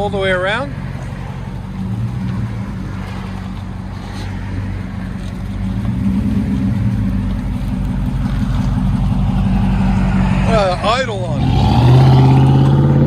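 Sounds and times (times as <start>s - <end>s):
truck engine idling: 0.0s - 11.6s.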